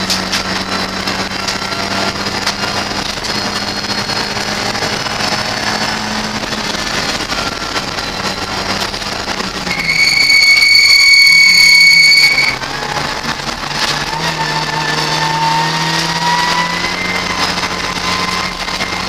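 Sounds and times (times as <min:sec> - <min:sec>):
high-pitched squeal: 0:00.0 - 0:19.0
race car engine inside cabin: 0:00.0 - 0:19.0.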